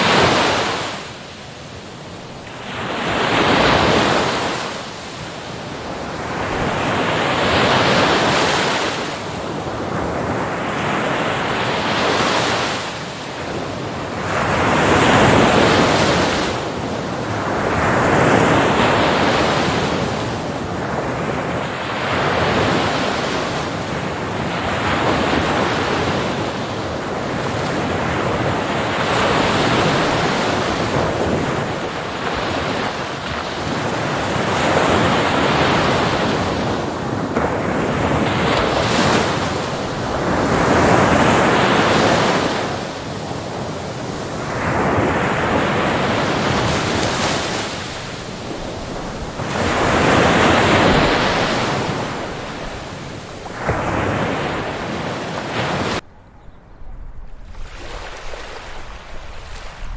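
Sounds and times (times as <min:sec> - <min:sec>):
ocean waves breaking: 0:00.0 - 0:56.0, 0:56.9 - 0:59.9.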